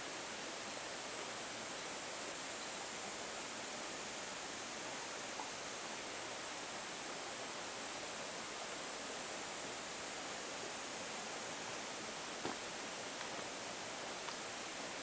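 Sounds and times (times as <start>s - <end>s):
stream flowing over stones: 3.0s - 15.0s.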